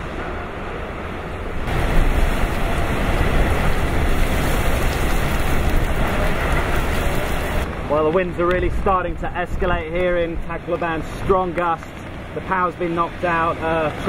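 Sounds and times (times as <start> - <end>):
strong wind buffeting microphone: 0.0 - 12.4.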